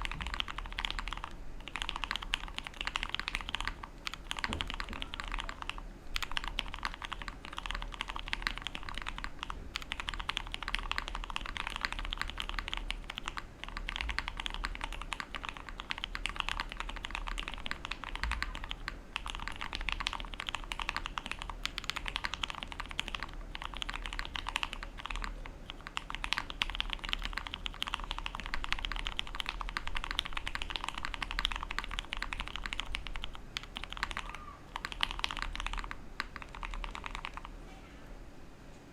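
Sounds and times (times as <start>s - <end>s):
fast mechanical keyboard typing: 0.0s - 37.6s.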